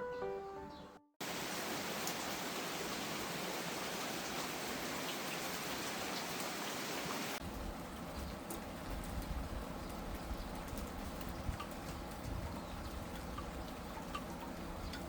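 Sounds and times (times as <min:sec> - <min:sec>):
steady rain falling: 0:01.2 - 0:15.0.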